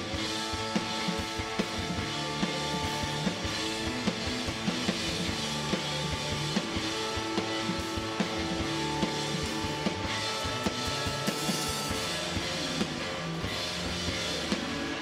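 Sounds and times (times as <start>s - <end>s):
drum kit steady beat: 0.0s - 15.0s
rock band playing instrumental: 0.0s - 15.0s.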